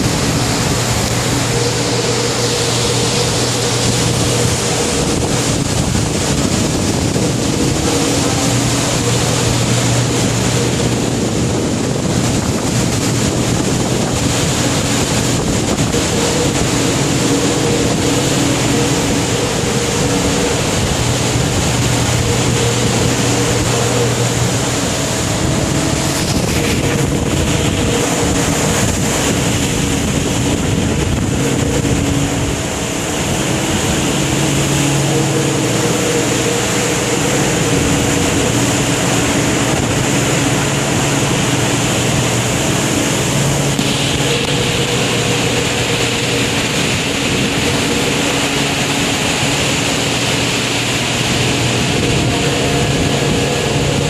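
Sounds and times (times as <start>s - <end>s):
low machinery hum: 0.0s - 54.0s
storm wind and heavy sea: 0.0s - 54.0s.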